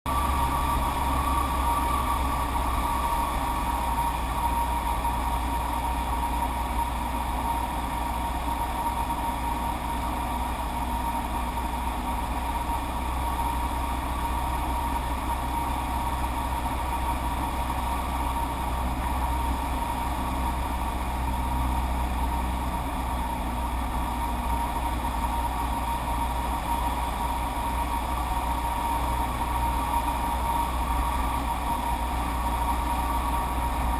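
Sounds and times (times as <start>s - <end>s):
engine drone with whine: 0.1s - 33.9s.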